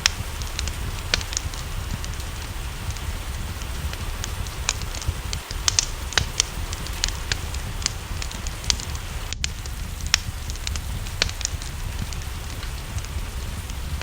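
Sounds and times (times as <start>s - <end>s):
low rumble: 0.0s - 14.0s
rain hissing: 0.0s - 14.0s
wood fire crackling and popping: 0.0s - 14.0s.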